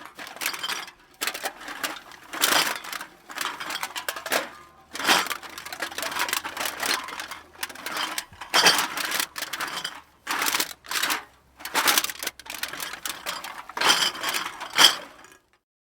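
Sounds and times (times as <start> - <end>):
glass bottles clinking: 0.1 - 15.2.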